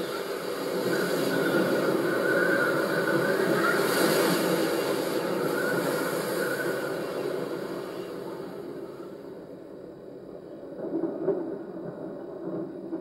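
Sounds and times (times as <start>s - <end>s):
steady rumbling noise: 0.0s - 13.0s.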